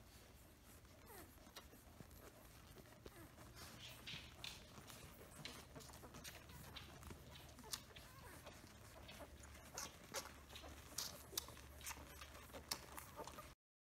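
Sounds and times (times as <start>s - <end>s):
puppies suckling: 0.0s - 13.6s.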